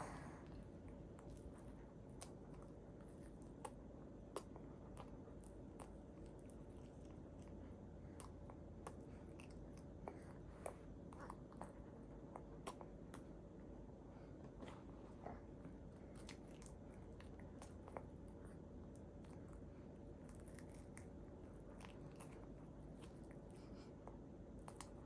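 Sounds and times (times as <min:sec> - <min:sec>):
baby chewing crunchy cracker: 0:00.0 - 0:13.3, 0:14.4 - 0:25.0.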